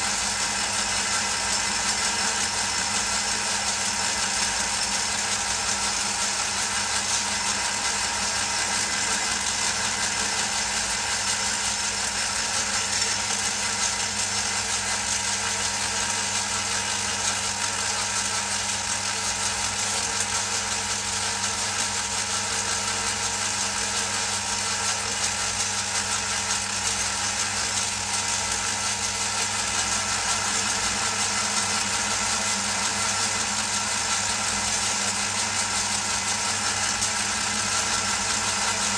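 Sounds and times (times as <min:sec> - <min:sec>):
lathe machine hum: 0:00.0 - 0:18.1, 0:25.2 - 0:38.9.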